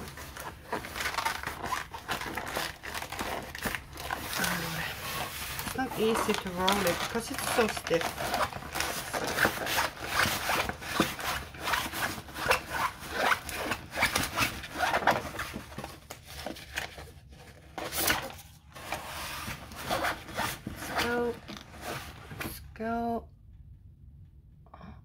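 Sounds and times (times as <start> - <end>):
canvas in plastic film rustling: 0.0 - 22.7.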